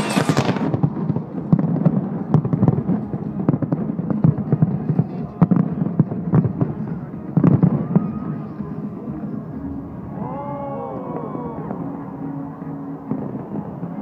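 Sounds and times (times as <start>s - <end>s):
fireworks bangs and crackles: 0.0s - 10.4s, 11.0s - 14.0s.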